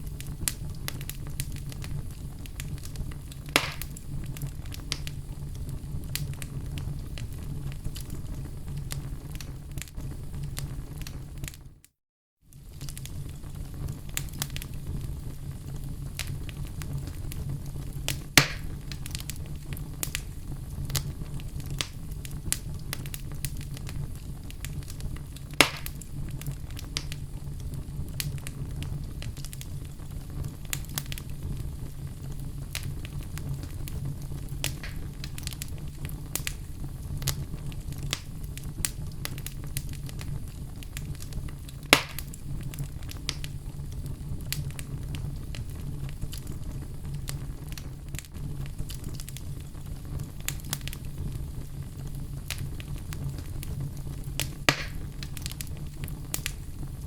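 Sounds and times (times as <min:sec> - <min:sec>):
logs crackling and popping: 0:00.0 - 0:11.7, 0:12.5 - 0:57.0
loud fire snaps: 0:00.0 - 0:11.9, 0:12.5 - 0:57.0
low rumble of flames: 0:00.0 - 0:11.9, 0:12.5 - 0:57.0.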